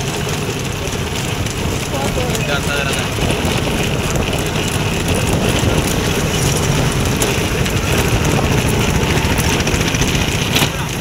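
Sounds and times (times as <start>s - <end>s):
cart wheels rattling on road: 0.0s - 11.0s.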